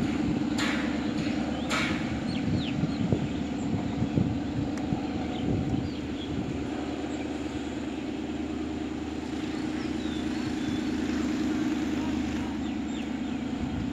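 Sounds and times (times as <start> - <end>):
engine idling: 0.0 - 13.9
small birds chirping: 1.0 - 8.1, 8.9 - 13.9.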